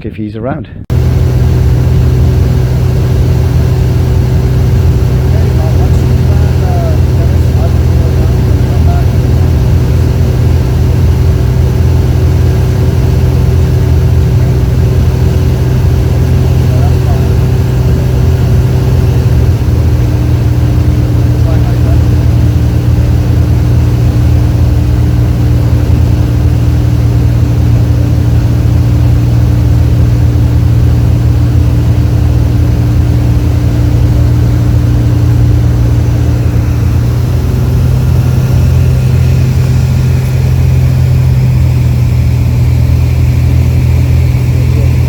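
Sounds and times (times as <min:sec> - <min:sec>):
light aircraft engine and propeller: 0:00.9 - 0:45.0.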